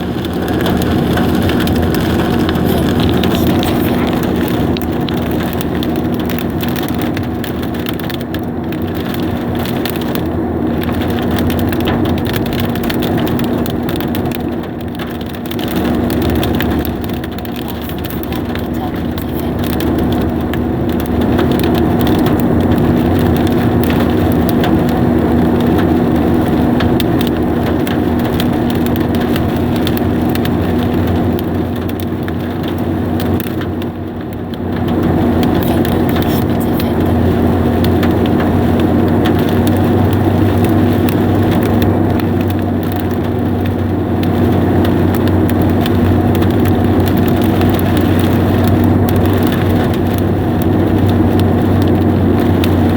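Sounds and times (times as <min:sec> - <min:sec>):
hailstones drumming on car roof: 0:00.0 - 0:52.9.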